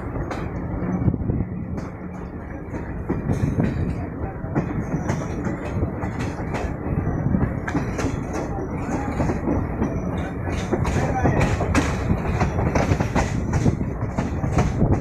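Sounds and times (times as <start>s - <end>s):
train wheels rumbling on rails: 0.0s - 15.0s
wheels clicking over rail joints: 1.7s - 15.0s.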